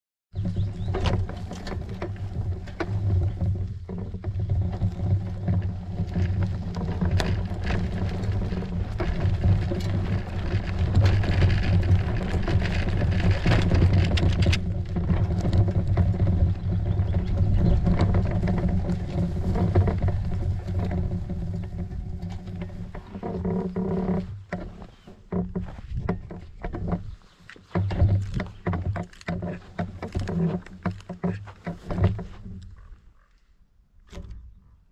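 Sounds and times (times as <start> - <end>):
bicycle rattling over bumps: 0.3 - 32.9
bicycle tyres rumbling on dirt: 0.3 - 33.3.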